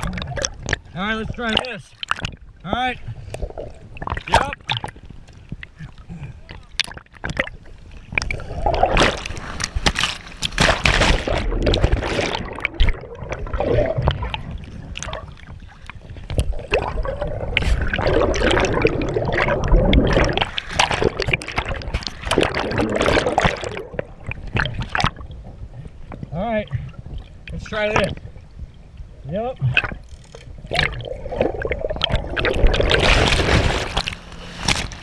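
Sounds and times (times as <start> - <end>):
water splashing against camera: 0.0 - 28.8, 29.5 - 35.0.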